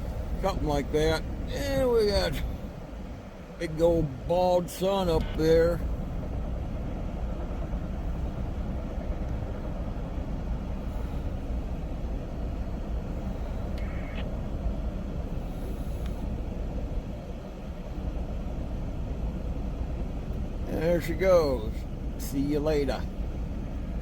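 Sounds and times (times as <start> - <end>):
freight train rumbling: 0.0 - 24.0.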